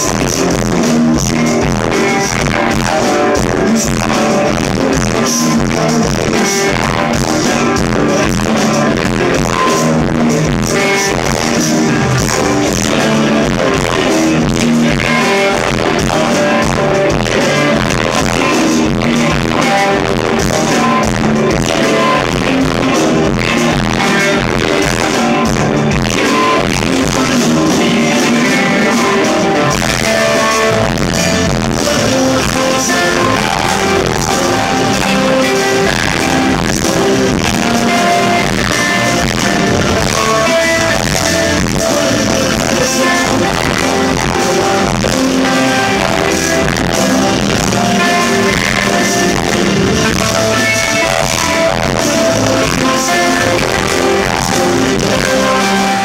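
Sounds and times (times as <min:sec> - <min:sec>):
live rock band playing: 0:00.0 - 0:56.0
person singing lead vocal: 0:00.0 - 0:56.0.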